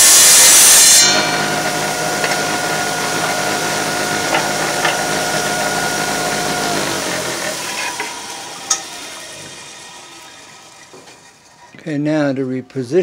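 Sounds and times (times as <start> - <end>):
electric tile saw whining: 0.0 - 12.3.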